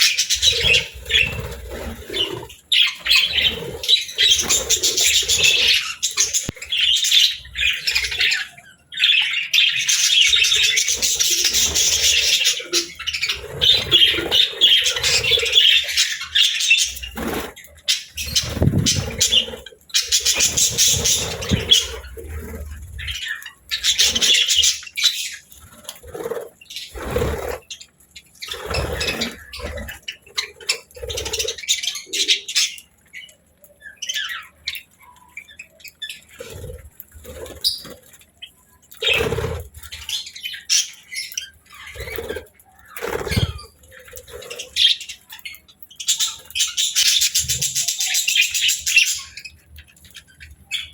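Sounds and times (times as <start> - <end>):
budgerigars chattering and warbling: 0.0 - 50.9.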